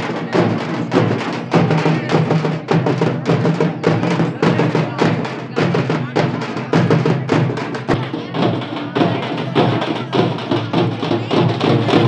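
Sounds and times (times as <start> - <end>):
crowd voices: 0.0 - 12.0
drums beaten fast: 0.0 - 12.0.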